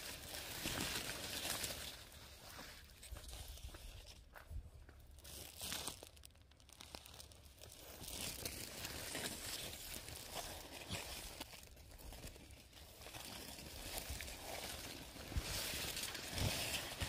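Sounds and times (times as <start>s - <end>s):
corn snapping and tearing: 0.0s - 2.2s, 5.1s - 17.0s
dry cornstalks rustling: 0.0s - 17.0s.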